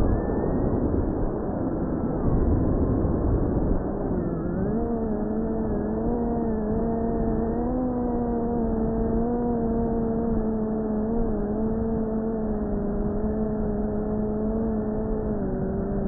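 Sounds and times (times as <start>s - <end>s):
drone propellers whining: 3.1s - 16.0s.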